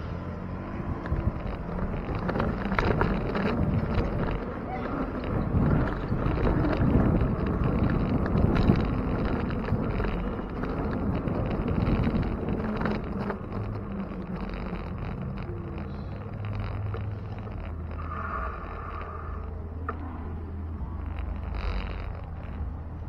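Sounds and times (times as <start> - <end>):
road and traffic rumble: 0.0 - 23.0
wind buffeting microphone: 0.0 - 23.0.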